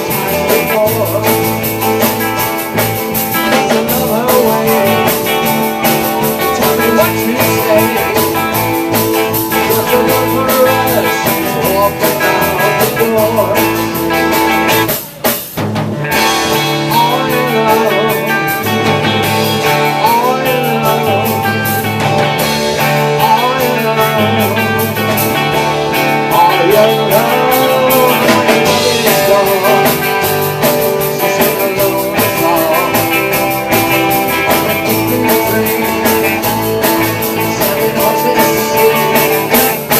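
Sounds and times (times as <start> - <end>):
electric guitar lead bending notes: 0.0 - 39.9
rock band playing live: 0.0 - 39.9.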